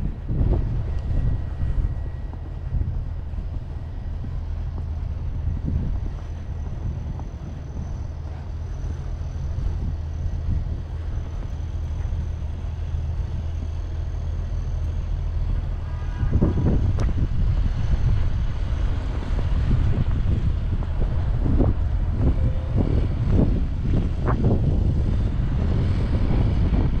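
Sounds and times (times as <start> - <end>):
large vehicle engine rumbling: 0.0 - 27.0.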